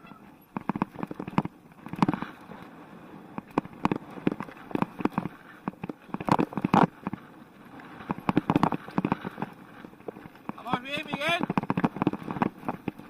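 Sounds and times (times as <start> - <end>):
mountain bike clattering over rocks: 0.4 - 2.6, 3.4 - 7.4, 8.0 - 13.0.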